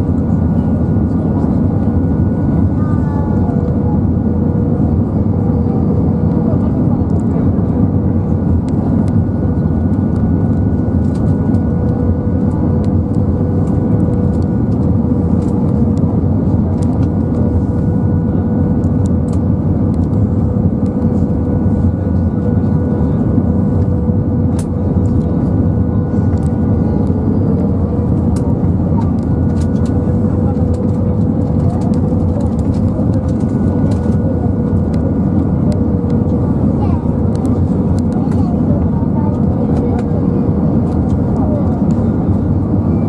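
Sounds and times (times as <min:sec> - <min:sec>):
jet engines droning: 0:00.0 - 0:43.0.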